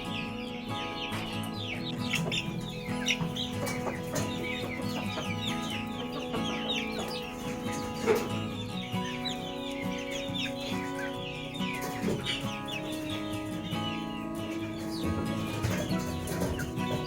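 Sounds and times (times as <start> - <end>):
background music with held notes: 0.0 - 17.0
chickens calling: 0.0 - 17.0.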